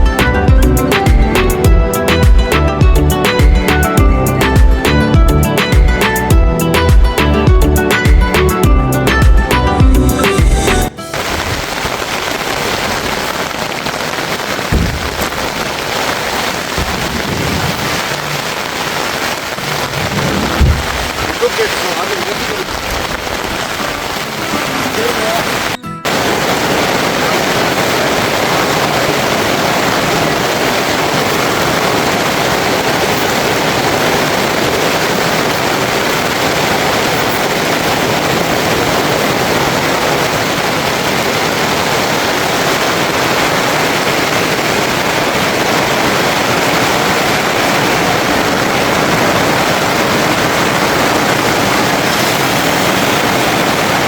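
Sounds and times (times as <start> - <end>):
rushing water: 10.2 - 54.0.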